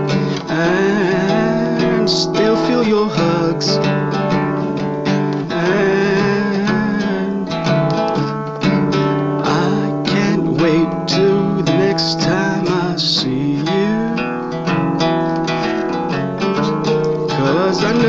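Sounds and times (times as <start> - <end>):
acoustic guitar music: 0.0 - 18.0.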